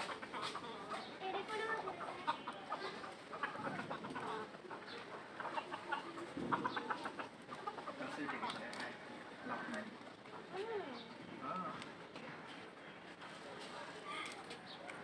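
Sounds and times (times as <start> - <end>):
birds chattering: 0.0 - 13.2.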